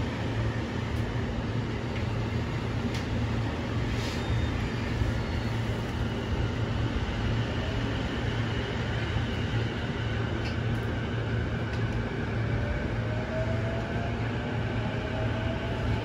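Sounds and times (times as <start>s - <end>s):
electric train rumble: 0.0s - 16.0s.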